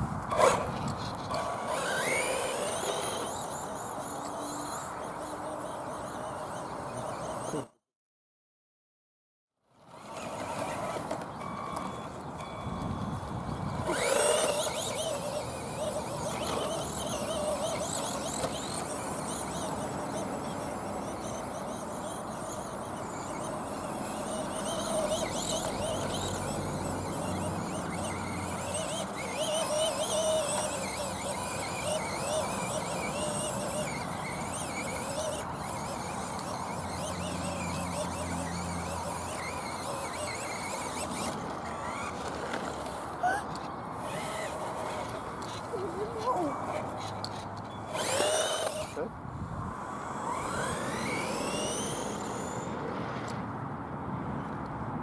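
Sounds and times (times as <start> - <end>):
rc truck motor whining: 0.0 - 7.8, 9.7 - 53.4.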